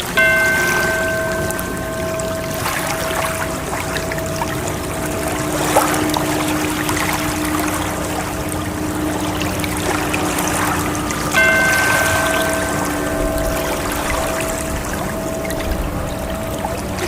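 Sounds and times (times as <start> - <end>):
higher held tone: 0.0 - 17.0
rushing trickling water: 0.0 - 17.0
soft held drone tones: 0.0 - 17.0.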